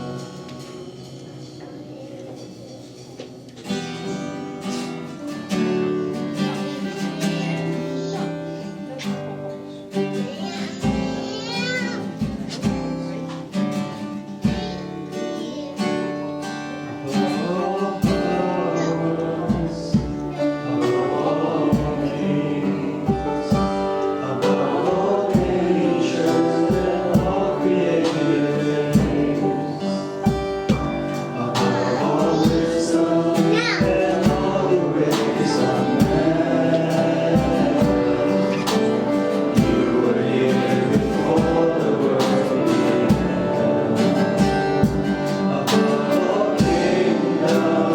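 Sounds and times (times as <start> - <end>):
people singing gospel: 0.0 - 47.9
worship band with guitar: 0.0 - 47.9.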